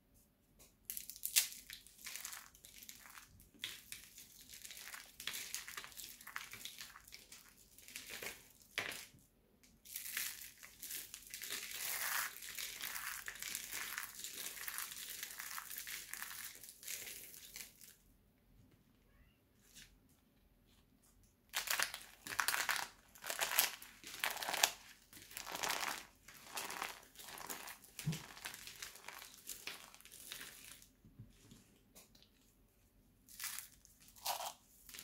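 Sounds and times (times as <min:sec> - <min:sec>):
dried soap crackling and crunching: 0:00.9 - 0:18.0, 0:21.5 - 0:31.0, 0:33.3 - 0:35.0.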